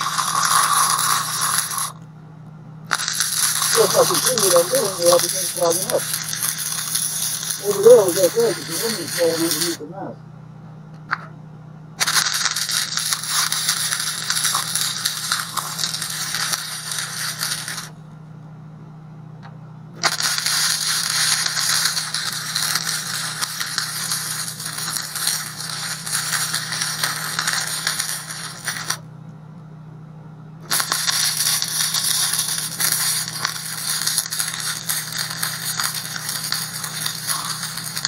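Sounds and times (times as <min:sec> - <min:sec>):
welding arc crackling: 0:00.0 - 0:02.0, 0:02.9 - 0:10.2, 0:12.0 - 0:18.0, 0:20.0 - 0:29.0, 0:30.6 - 0:38.0
steady low hum: 0:00.0 - 0:38.0.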